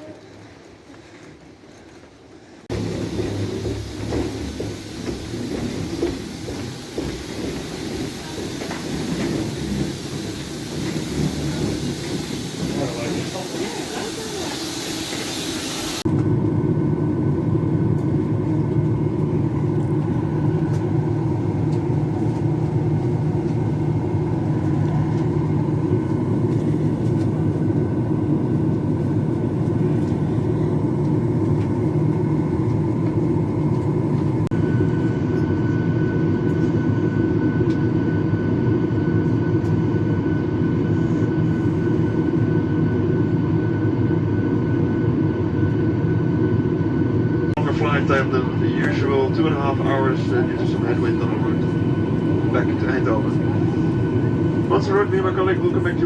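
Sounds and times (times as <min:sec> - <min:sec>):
jet cabin hum and rumble: 0:02.7 - 0:56.0.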